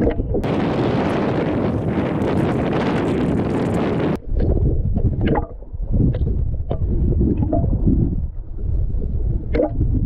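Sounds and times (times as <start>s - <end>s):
underwater rumble of moving water: 0.0s - 10.0s.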